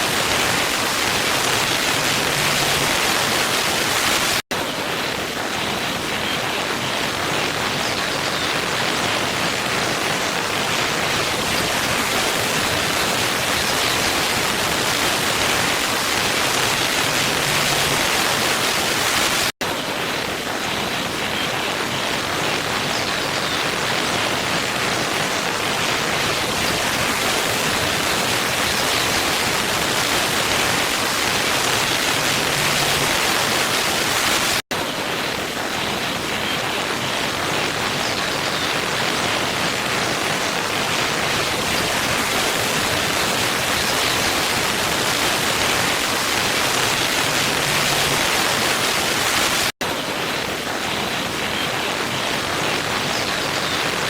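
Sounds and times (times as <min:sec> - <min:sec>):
waterfall rushing hiss: 0:00.0 - 0:54.0.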